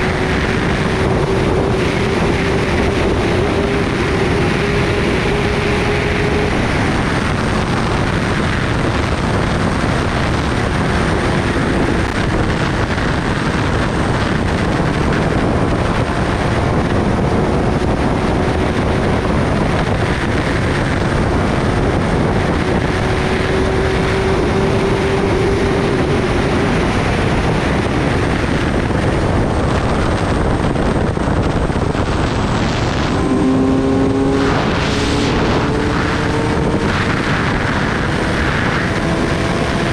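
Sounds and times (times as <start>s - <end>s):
motorcycle engine droning: 0.0s - 39.9s
wind rush over microphone: 0.0s - 39.9s.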